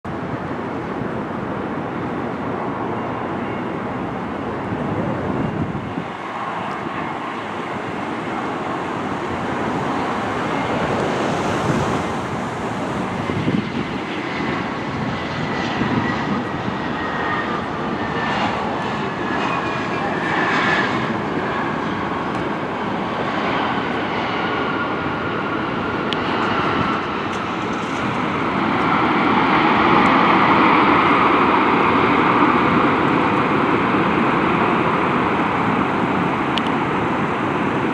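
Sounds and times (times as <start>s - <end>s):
jet engine rumble: 0.1s - 37.9s
jet engine whine falling: 0.1s - 37.9s.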